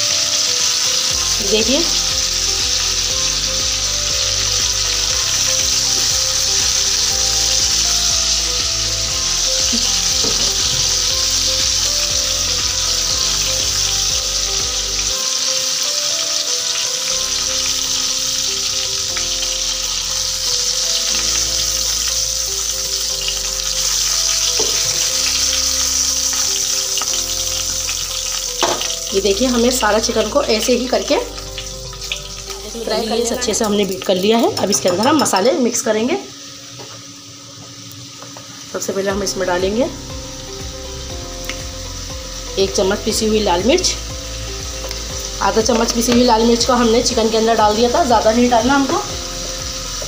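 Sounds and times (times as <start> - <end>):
chicken sizzling in hot oil: 0.0 - 50.0.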